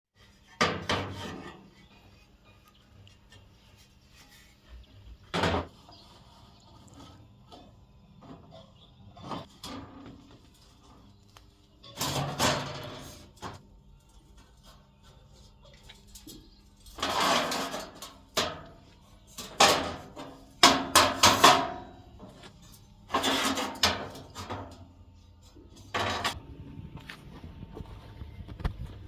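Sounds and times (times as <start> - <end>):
metal scraping and clanking: 0.5 - 2.6, 4.1 - 11.1, 11.8 - 26.4.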